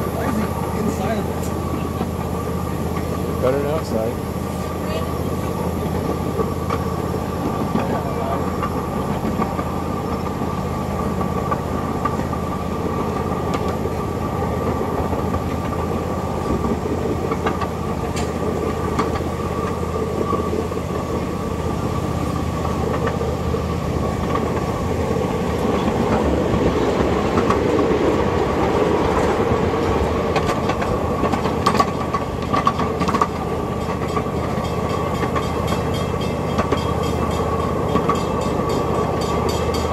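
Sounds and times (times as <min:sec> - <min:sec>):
miniature train rumbling on track: 0:00.0 - 0:39.9.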